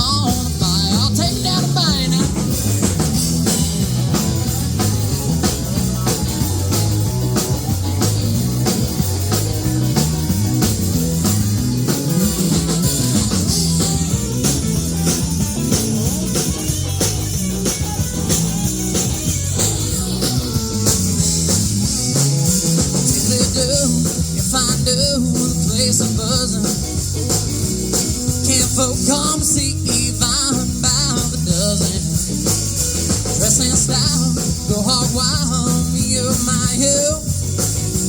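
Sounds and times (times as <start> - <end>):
drum kit steady beat: 0.0 - 38.0
electric guitar: 0.0 - 38.0.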